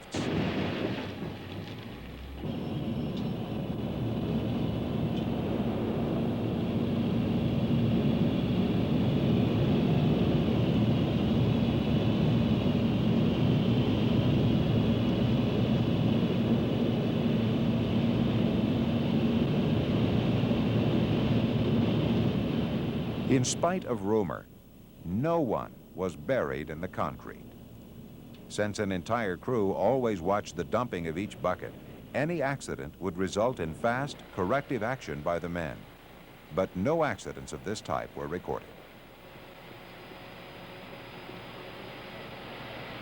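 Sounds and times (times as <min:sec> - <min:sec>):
loud mechanical noise: 0:00.0 - 0:24.2, 0:25.7 - 0:43.0.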